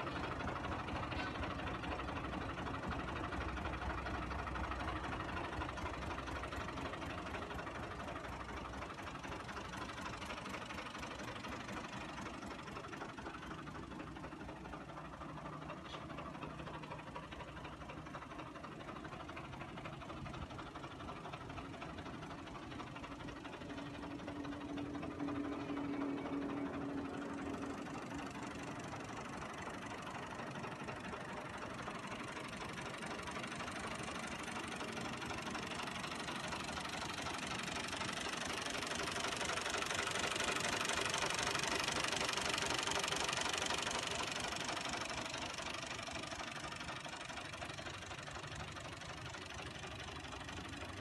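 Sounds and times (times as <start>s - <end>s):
tractor diesel engine idling: 0.0s - 51.0s.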